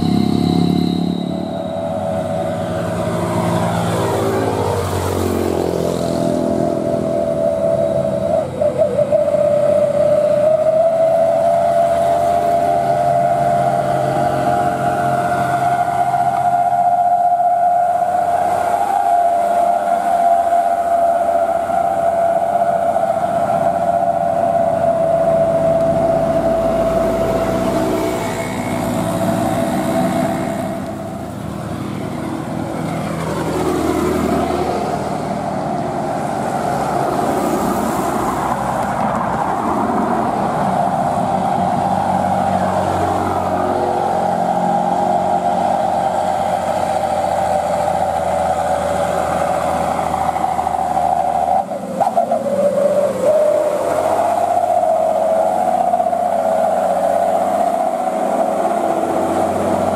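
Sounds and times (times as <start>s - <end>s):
diesel trucks labouring uphill: 0.0s - 59.9s
vehicles passing: 0.0s - 59.9s.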